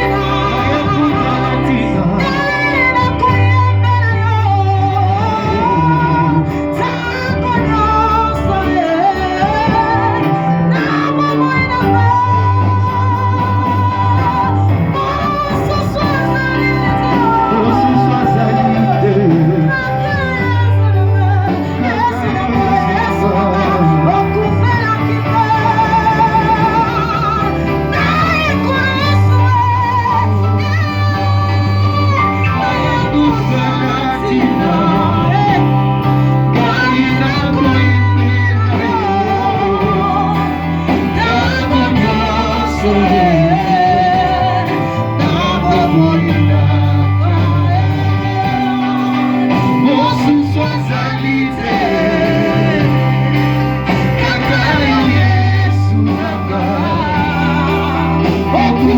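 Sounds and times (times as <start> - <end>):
band with bass and guitar: 0.0 - 58.9
woman singing gospel: 0.0 - 58.9.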